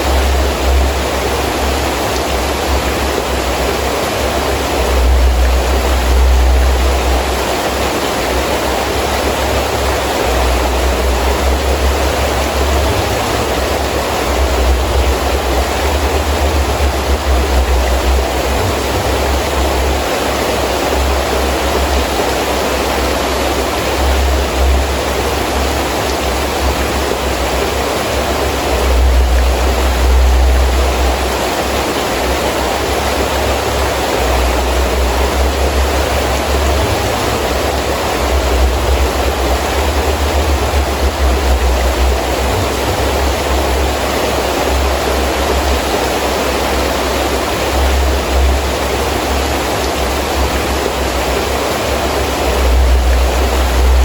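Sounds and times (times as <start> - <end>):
heavy rain falling: 0.0 - 54.0
wind gusts: 0.0 - 54.0.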